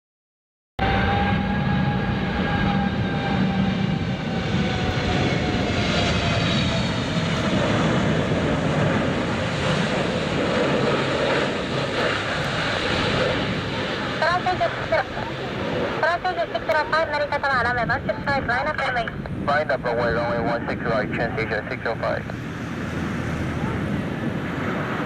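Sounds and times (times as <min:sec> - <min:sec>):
jetliner engines rushing and whining: 0:00.8 - 0:25.0.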